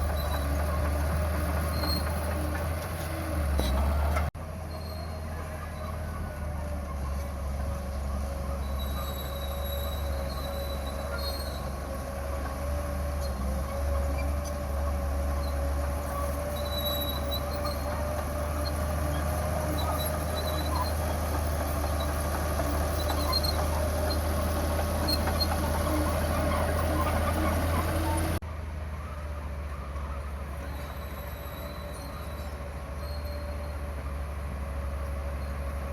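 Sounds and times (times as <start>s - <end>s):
steel tracks clattering and squealing: 0.0s - 7.6s, 8.3s - 28.4s, 29.9s - 34.3s
diesel engine under load: 0.0s - 35.9s.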